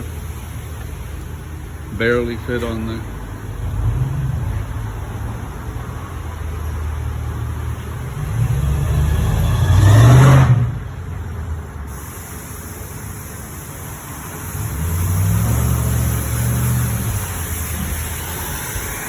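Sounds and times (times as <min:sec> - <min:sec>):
vehicle engines running: 0:00.0 - 0:19.0.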